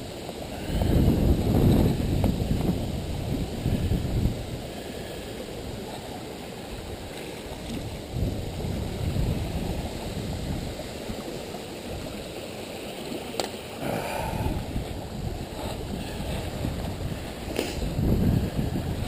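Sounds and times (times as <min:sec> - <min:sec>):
wind buffeting microphone: 0:00.0 - 0:12.4, 0:13.8 - 0:19.0.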